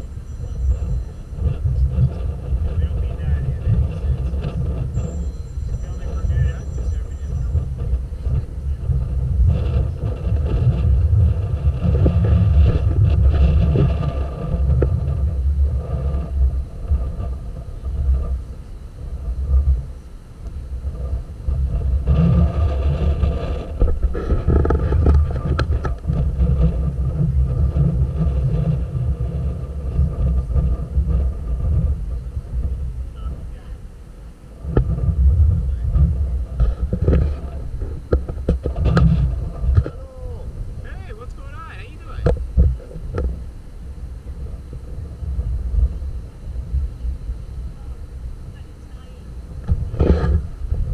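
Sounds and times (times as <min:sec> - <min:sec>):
boat engine running: 0:00.0 - 0:50.9
wind buffeting microphone: 0:00.0 - 0:50.9.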